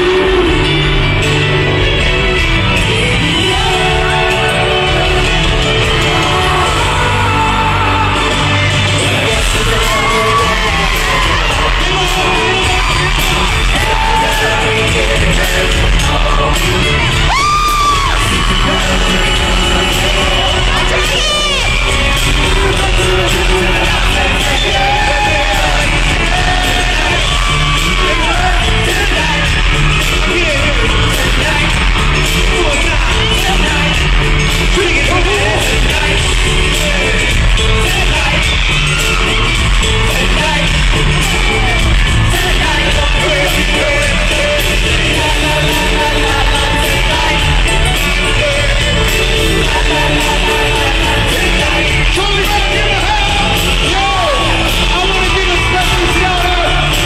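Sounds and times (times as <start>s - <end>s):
fans yelling and whooping: 0.0s - 57.0s
live pop music: 0.0s - 57.0s
man singing into microphone: 0.0s - 57.0s.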